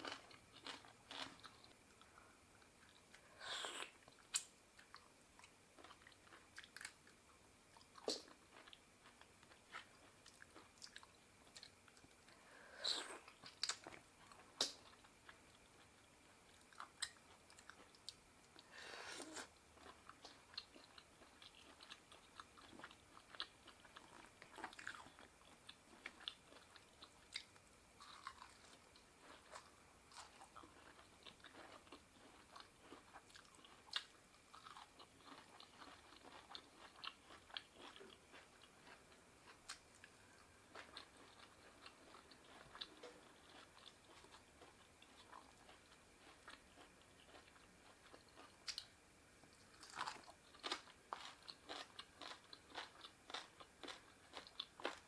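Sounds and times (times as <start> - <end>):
person chewing and crunching: 0.0 - 7.2, 7.8 - 55.0.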